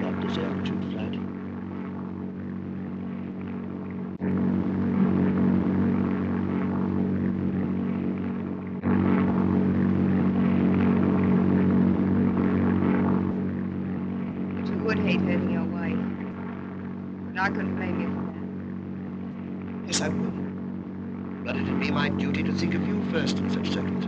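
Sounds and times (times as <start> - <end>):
propeller aircraft engine droning: 0.0 - 24.0.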